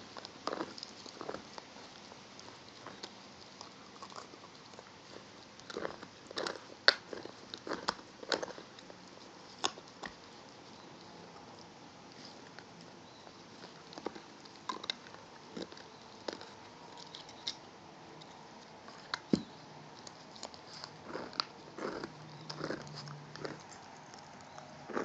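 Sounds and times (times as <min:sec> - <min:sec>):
rasping chews: 0:00.0 - 0:25.0.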